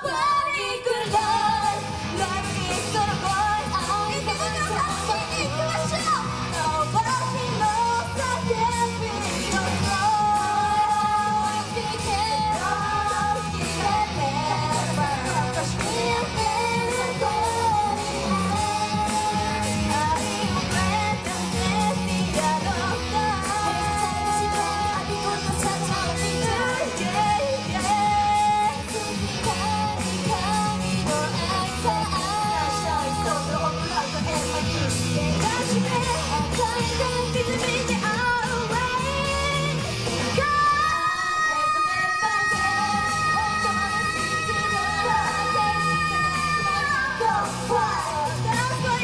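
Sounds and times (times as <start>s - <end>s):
dance-pop backing music: 0.0s - 49.0s
female group singing: 0.0s - 49.0s.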